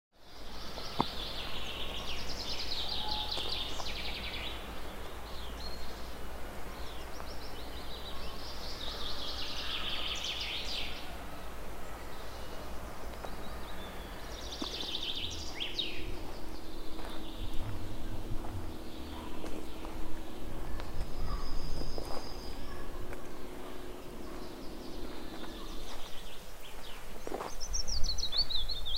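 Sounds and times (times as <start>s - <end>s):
songbirds singing: 0.2s - 28.9s
low steady rumble: 0.4s - 28.9s.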